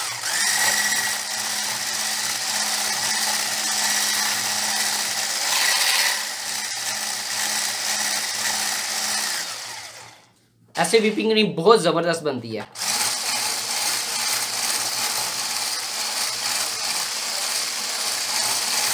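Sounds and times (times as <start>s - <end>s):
electric hand beater humming: 0.0s - 10.3s, 12.8s - 18.9s.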